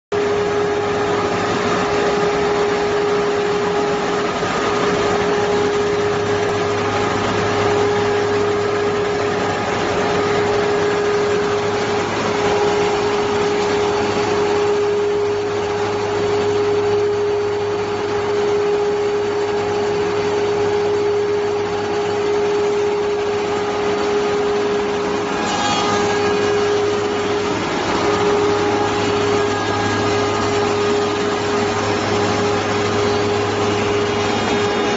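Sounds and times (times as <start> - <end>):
woodworking moulder whining hum: 0.1 - 34.9.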